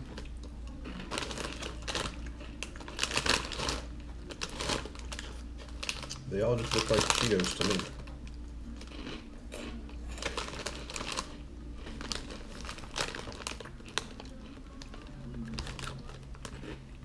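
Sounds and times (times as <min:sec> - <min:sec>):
snack bag crinkling: 0:00.0 - 0:17.0.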